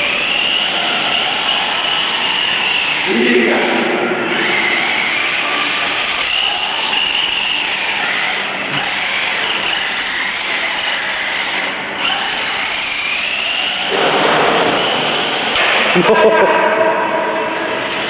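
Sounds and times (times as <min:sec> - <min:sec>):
toy car motors whining: 0:00.0 - 0:15.6, 0:17.8 - 0:18.0.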